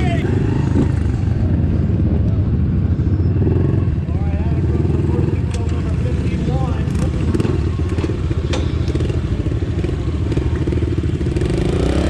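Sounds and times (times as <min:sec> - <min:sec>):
pit bike engines running: 0:00.0 - 0:12.0.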